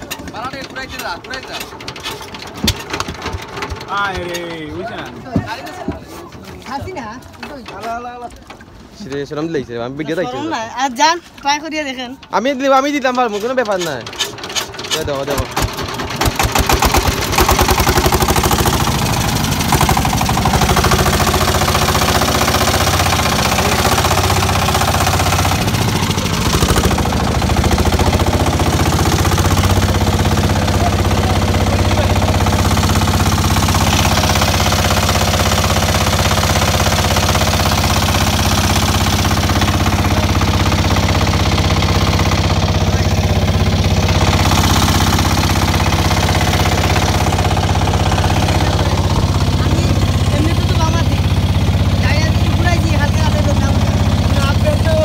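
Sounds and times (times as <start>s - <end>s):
boat diesel engine knocking: 10.5s - 55.0s.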